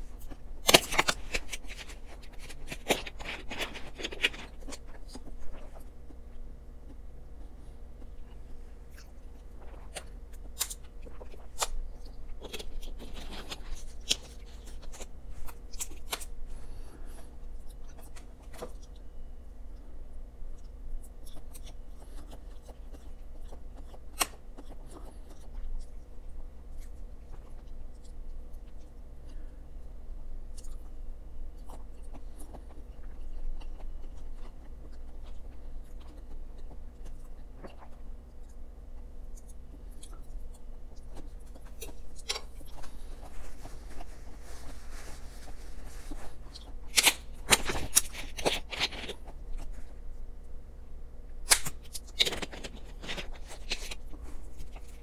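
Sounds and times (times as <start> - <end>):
chewing: 0.1 - 19.1, 20.5 - 29.5, 30.5 - 50.0.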